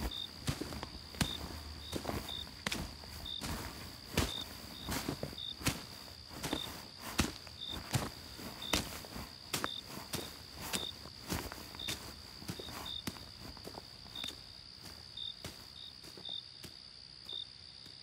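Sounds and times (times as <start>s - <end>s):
footsteps on leaves: 0.0s - 16.3s
crickets chirping: 0.0s - 18.0s.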